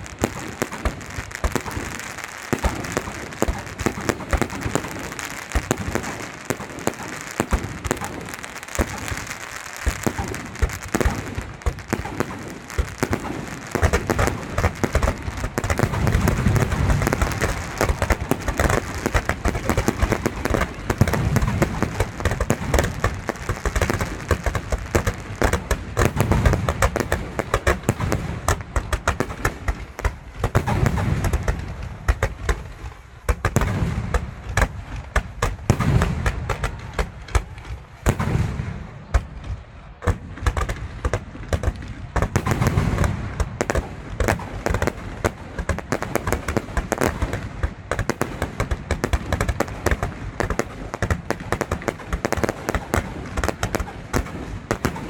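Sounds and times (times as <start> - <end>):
deep fireworks booms: 0.0 - 55.0
fireworks pops and crackles: 0.0 - 55.0.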